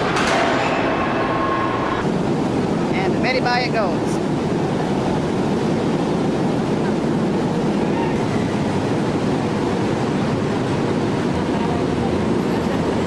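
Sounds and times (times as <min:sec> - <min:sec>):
heavy machinery rumbling: 0:00.0 - 0:13.0.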